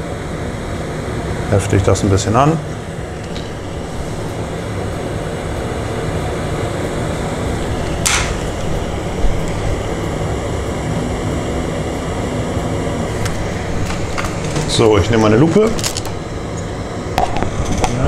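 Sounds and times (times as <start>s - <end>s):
extractor fan running: 0.0s - 18.0s
soldering iron sizzle: 0.0s - 18.0s.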